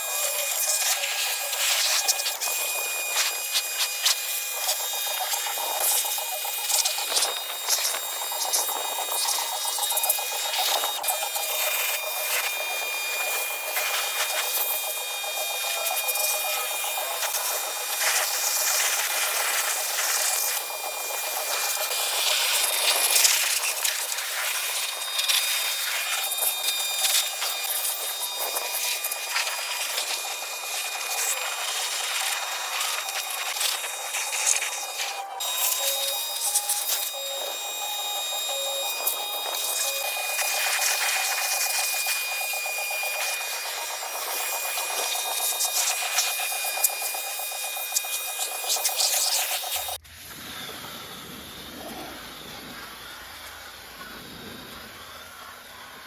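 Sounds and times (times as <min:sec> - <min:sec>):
pressure washer motor whine: 0:00.0 - 0:56.0.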